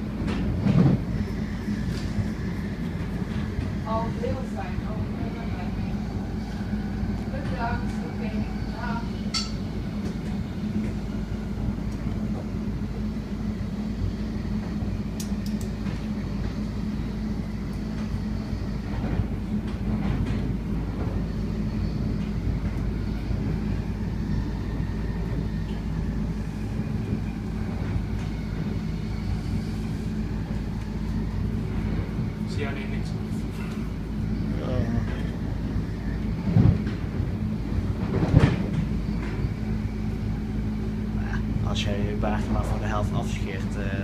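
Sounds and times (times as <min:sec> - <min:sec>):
train rumble and hum: 0:00.0 - 0:44.0.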